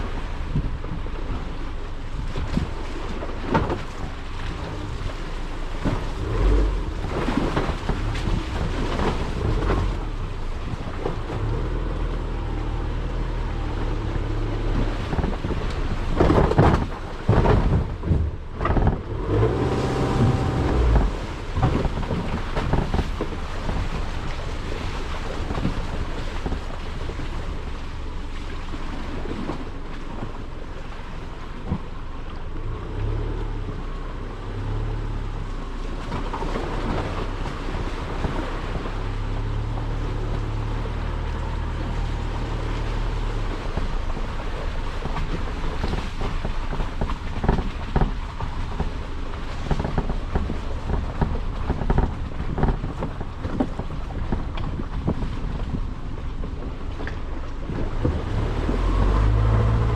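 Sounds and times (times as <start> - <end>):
car engine running: 0.0 - 59.9
road and wind noise: 0.0 - 59.9.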